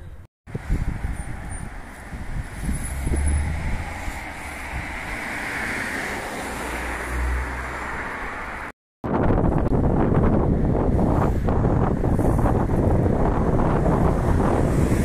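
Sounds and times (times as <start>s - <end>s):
wind buffeting microphone: 0.0s - 6.2s, 9.0s - 15.0s
road traffic rushing by: 0.5s - 8.8s, 9.7s - 15.0s.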